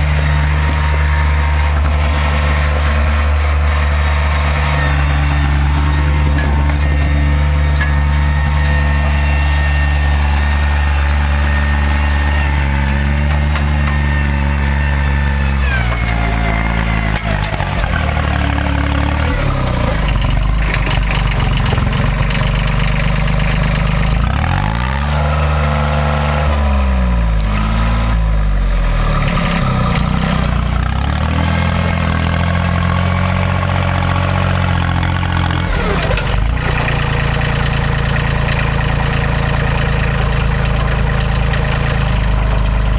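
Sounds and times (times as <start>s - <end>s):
engine revving: 0.0s - 42.9s.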